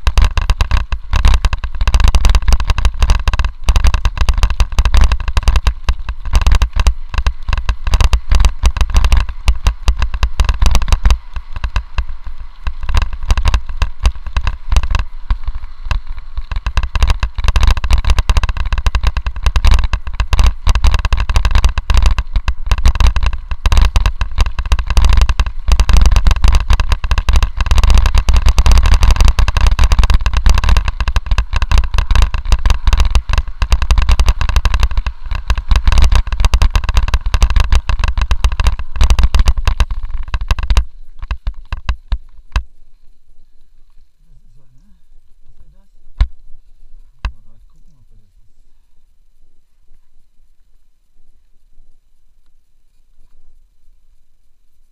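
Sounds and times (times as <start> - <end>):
camera rattling and knocking: 0.0 - 42.8, 45.6 - 46.4, 47.0 - 47.5
wind rumble: 0.0 - 52.3
bike riding over gravel: 0.0 - 54.9.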